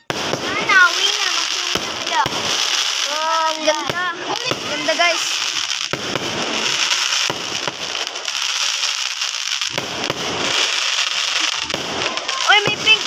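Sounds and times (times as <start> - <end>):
fireworks booming: 0.0 - 13.0
fireworks crackling: 0.0 - 13.0.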